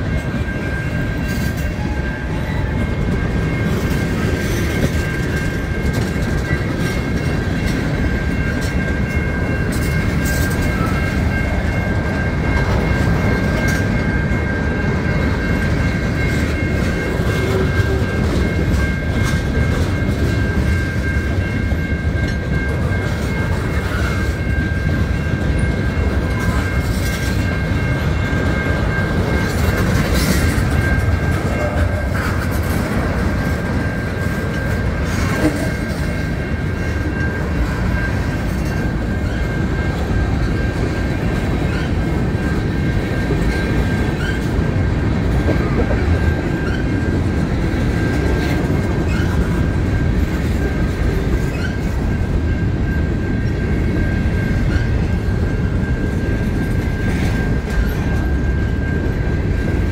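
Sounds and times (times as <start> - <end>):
freight train rumbling past: 0.0 - 59.9
steady high-pitched tone: 0.0 - 59.9.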